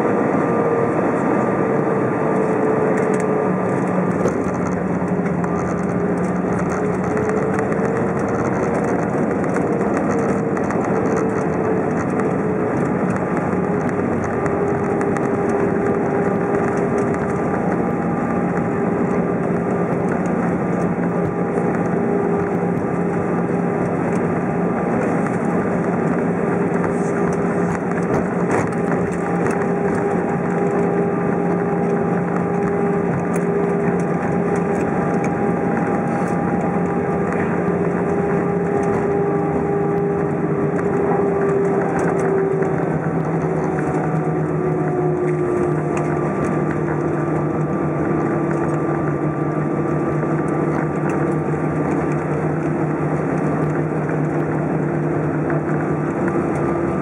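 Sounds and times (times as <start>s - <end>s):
aircraft cabin engine and airflow noise: 0.0s - 57.0s
jet engine whine: 0.0s - 57.0s.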